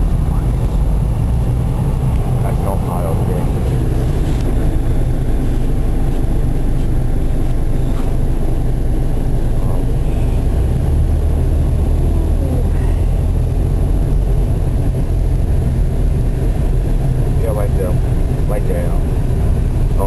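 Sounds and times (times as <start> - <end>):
car engine rumble: 0.0 - 20.0
deep drone: 0.0 - 20.0
road noise: 0.0 - 20.0.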